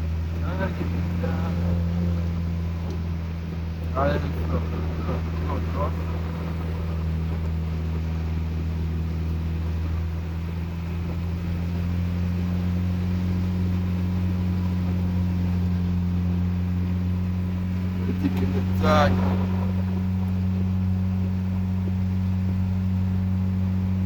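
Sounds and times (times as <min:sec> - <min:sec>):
vehicle engine drone: 0:00.0 - 0:24.0.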